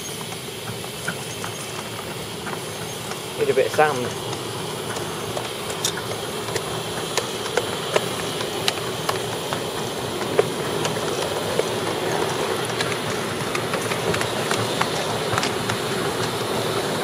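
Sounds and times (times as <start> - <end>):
miniature steam locomotive hissing: 0.0 - 17.0
wheels clicking on track: 0.0 - 17.0.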